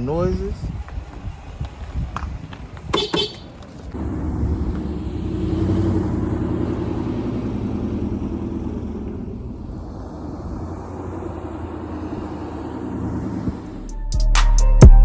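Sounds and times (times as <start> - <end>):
car engine and road hum: 0.0 - 14.1.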